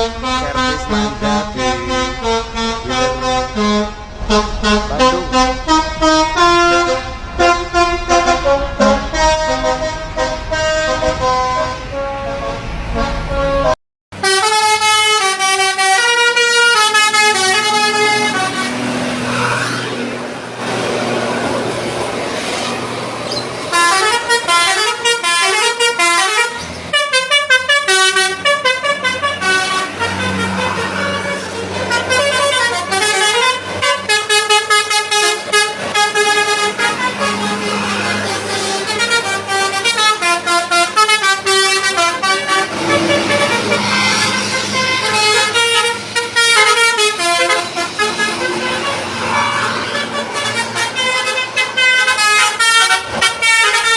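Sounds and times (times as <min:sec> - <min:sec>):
bus horns playing melodic tunes: 0:00.0 - 0:53.9.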